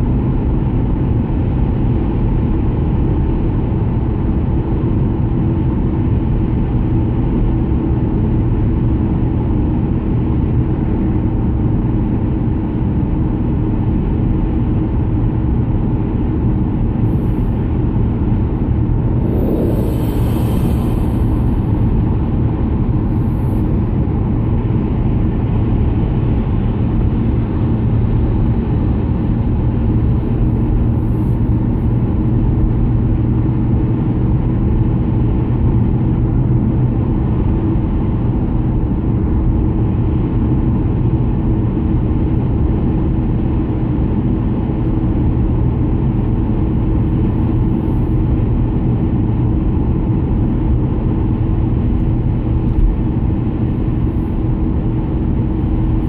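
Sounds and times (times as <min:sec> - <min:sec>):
car road and engine drone: 0:00.0 - 0:56.0.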